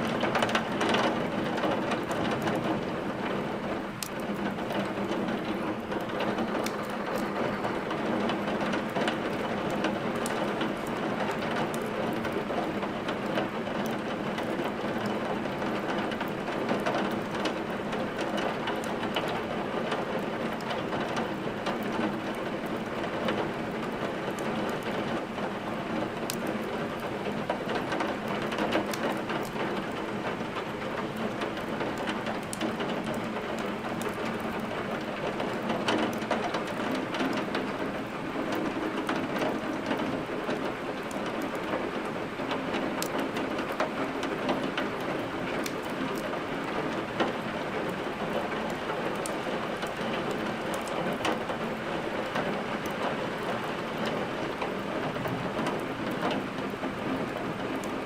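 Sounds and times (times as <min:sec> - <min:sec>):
heavy rain: 0:00.0 - 0:58.0
wood fire crackling: 0:00.0 - 0:58.0.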